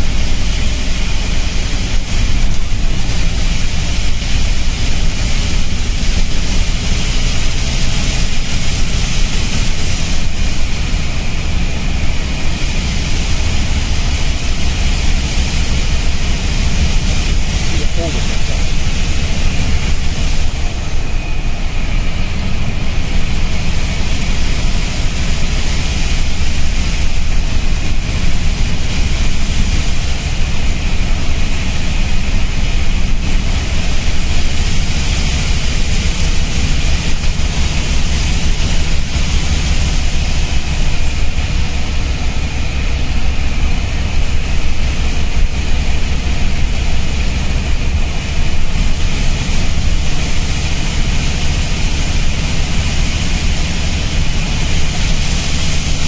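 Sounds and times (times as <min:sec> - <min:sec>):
air leak hissing: 0:00.0 - 0:56.0
bus engine and road drone: 0:00.0 - 0:56.0.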